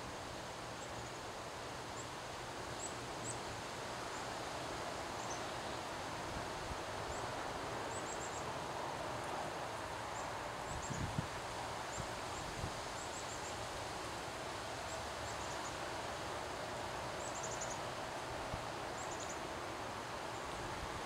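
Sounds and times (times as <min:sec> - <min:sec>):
wind gusting through trees: 0:00.0 - 0:21.0.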